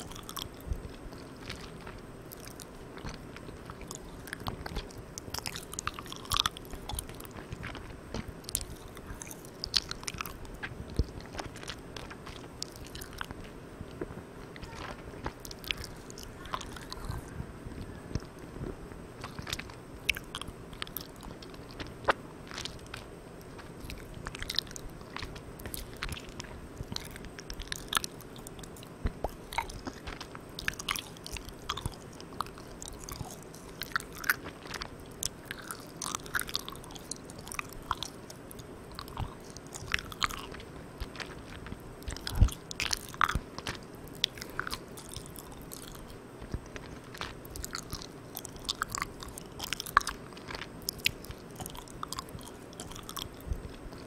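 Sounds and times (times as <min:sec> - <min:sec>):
microphone hiss: 0:00.0 - 0:54.0
sticky chewing mouth clicks: 0:00.0 - 0:54.0.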